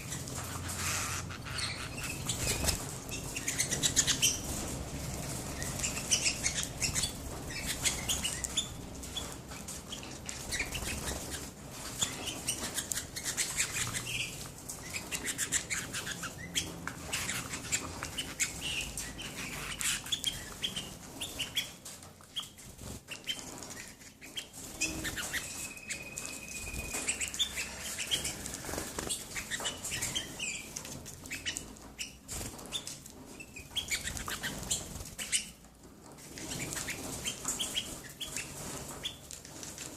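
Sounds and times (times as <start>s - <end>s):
canaries chirping: 0.0s - 39.9s
wing flutters and rustling: 0.0s - 39.9s.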